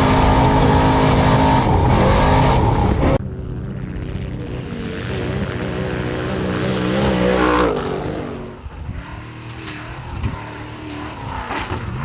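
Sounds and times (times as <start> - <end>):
race truck engine revving: 0.0 - 12.0.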